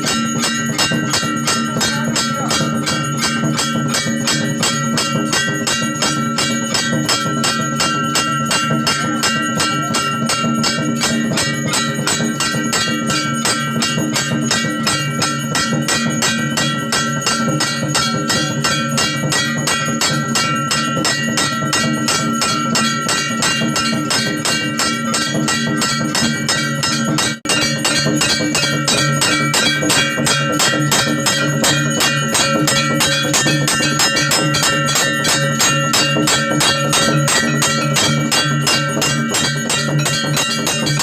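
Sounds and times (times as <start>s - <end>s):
music with held tones and fast beat: 0.0s - 41.0s.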